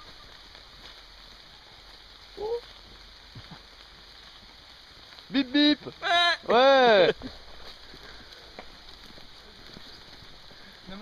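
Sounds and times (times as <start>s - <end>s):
rain falling on foliage: 0.0s - 11.0s.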